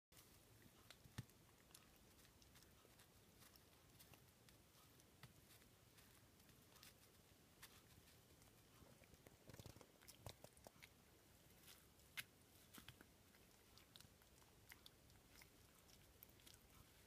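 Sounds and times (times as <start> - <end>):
puppy chewing stick: 0.2 - 17.0.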